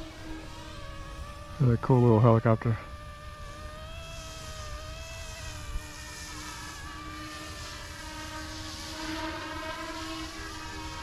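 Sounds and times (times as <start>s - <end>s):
rc helicopter rotors whining: 0.0s - 11.0s.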